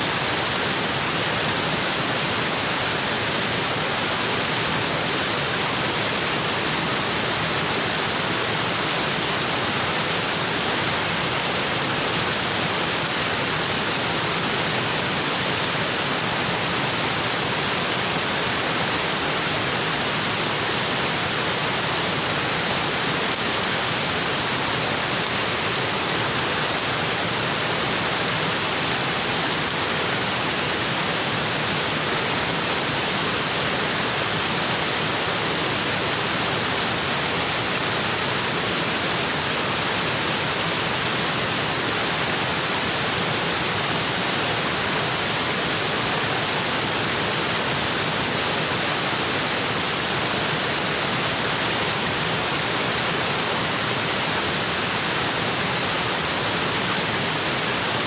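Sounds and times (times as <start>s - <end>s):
waterfall onto rocks: 0.0s - 58.0s.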